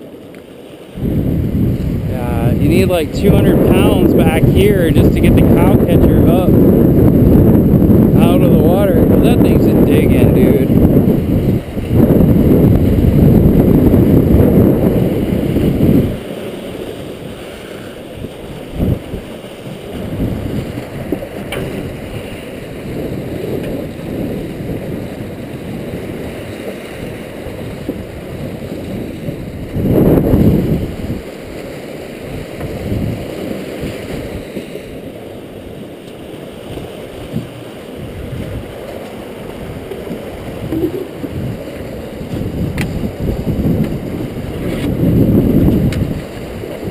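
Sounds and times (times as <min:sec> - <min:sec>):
water rushing and churning: 0:00.0 - 0:46.9
wind buffeting microphone: 0:00.9 - 0:46.9.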